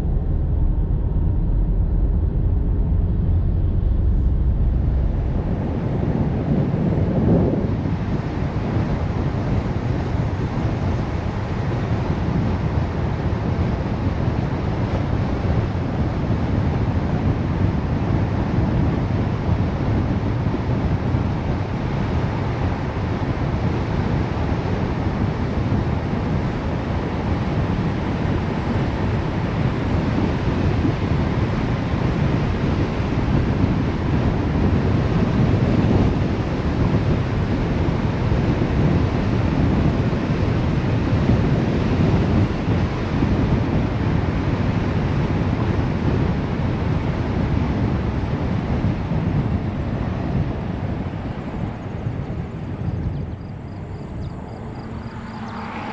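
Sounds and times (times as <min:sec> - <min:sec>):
car road and wind noise: 0:00.0 - 0:55.9.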